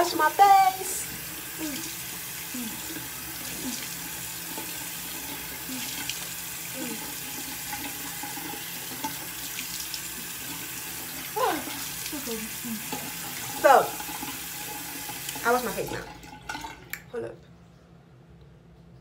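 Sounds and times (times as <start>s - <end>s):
hands washing: 0.0s - 17.1s.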